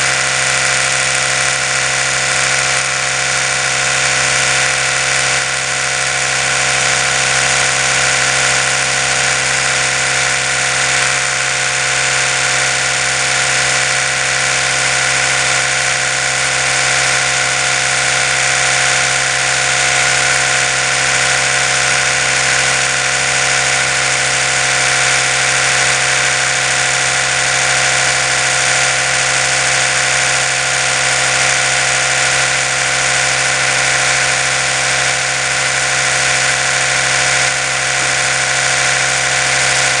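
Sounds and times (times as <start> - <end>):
electric toothbrush humming: 0.0 - 40.0.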